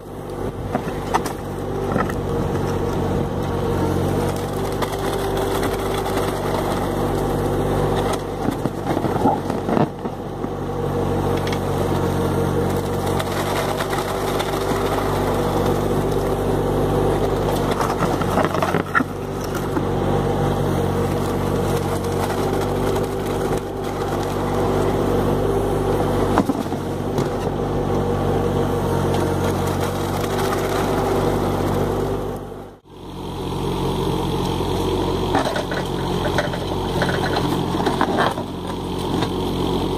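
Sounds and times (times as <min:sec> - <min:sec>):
diesel engine running: 0:00.0 - 0:39.9
bucket churning wet concrete: 0:00.5 - 0:32.4, 0:34.6 - 0:39.9.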